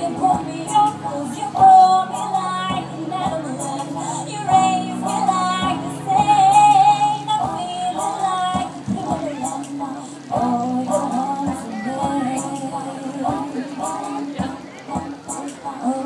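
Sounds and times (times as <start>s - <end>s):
keyboard: 0.0s - 16.0s
woman singing into microphone: 0.0s - 16.0s.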